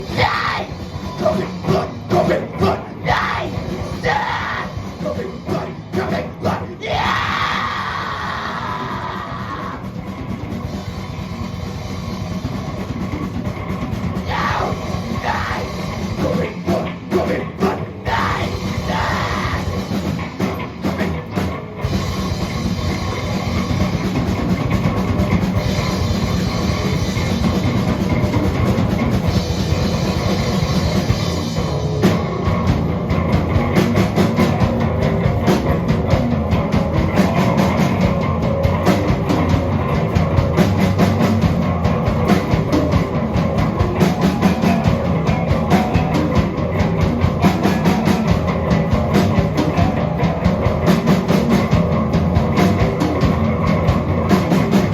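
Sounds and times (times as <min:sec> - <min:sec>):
bass guitars: 0:00.0 - 0:54.9
drum kit: 0:00.0 - 0:54.9.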